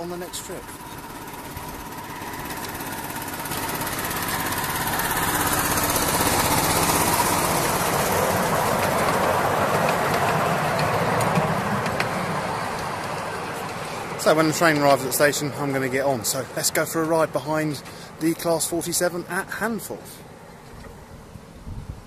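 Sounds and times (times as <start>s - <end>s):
miniature train passing: 0.0s - 22.0s.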